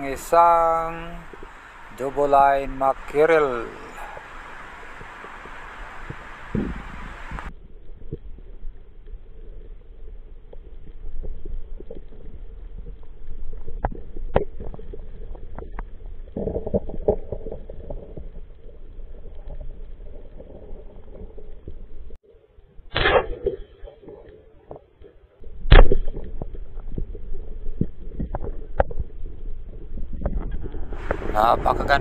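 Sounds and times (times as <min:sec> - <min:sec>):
underwater water rumble: 0:00.0 - 0:32.0.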